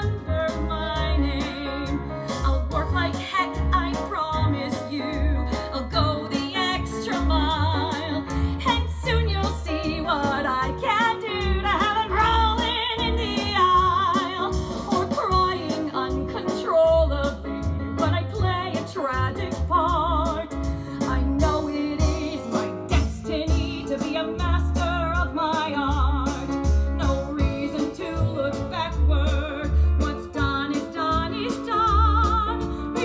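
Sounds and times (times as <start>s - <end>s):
instrumental backing track: 0.0s - 33.0s
woman singing: 0.0s - 33.0s.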